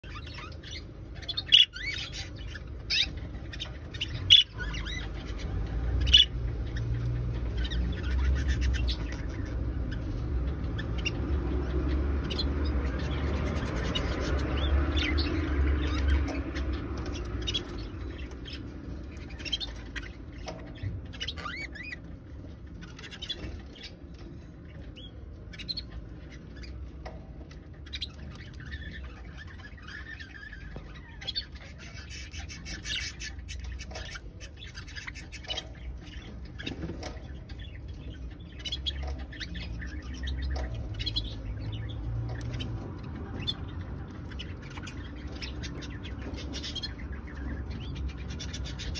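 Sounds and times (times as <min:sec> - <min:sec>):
budgerigars chirping and squawking: 0:00.0 - 0:48.9.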